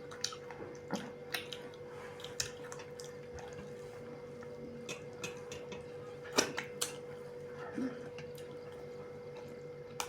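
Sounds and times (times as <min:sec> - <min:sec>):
chewing food: 0:00.0 - 0:10.0
faint steady hum: 0:00.0 - 0:10.0.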